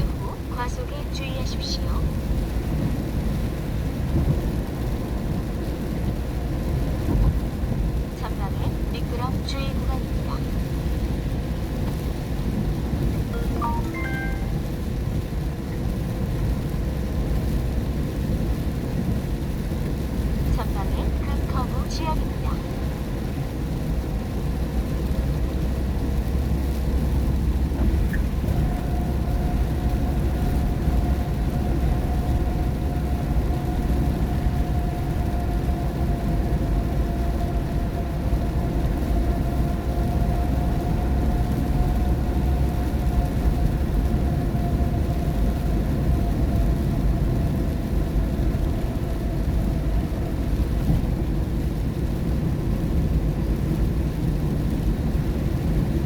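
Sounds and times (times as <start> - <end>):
tyres and engine rumble: 0.0 - 56.0
water hiss from wet road: 2.1 - 8.9, 10.4 - 13.2, 15.0 - 21.7, 22.7 - 56.0.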